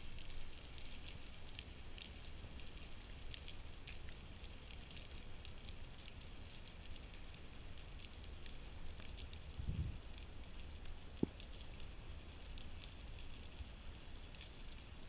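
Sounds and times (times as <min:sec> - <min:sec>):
low steady underwater rumble: 0:00.0 - 0:15.0.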